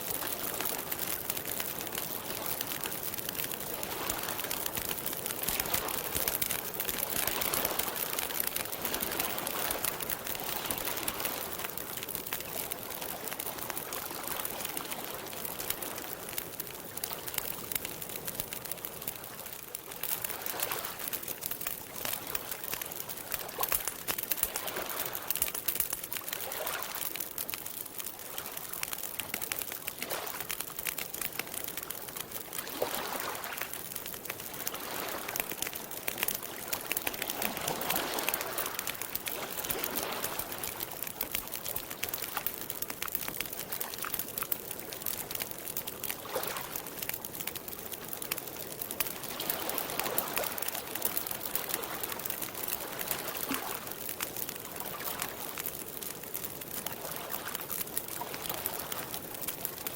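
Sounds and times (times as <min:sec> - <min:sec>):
water lapping gently: 0:00.0 - 0:45.4, 0:46.0 - 0:59.6
campfire crackling and popping: 0:00.0 - 0:59.9.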